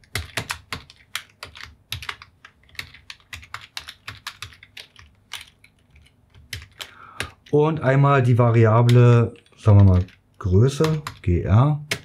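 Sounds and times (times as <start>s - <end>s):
keyboard typing: 0.0s - 12.0s.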